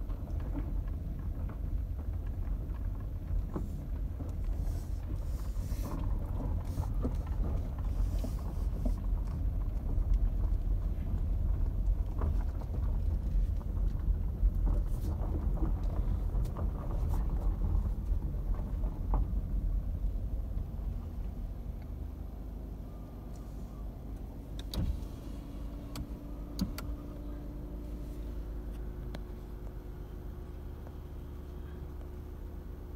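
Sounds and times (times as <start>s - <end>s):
car rumbling over dirt: 0.0s - 32.9s.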